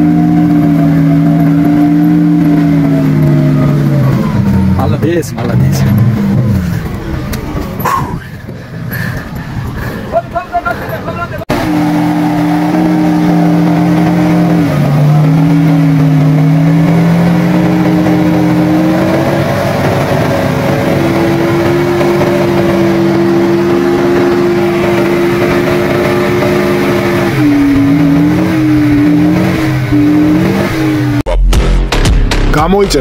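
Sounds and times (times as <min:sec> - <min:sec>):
truck engine running hard: 0:00.0 - 0:31.3.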